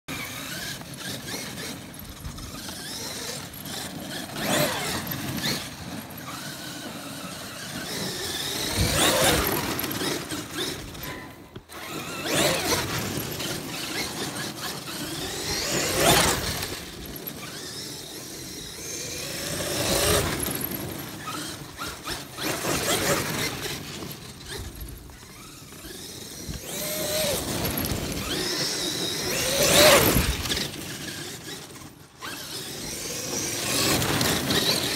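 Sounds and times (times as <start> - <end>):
electric motor whining: 0.1 - 34.9.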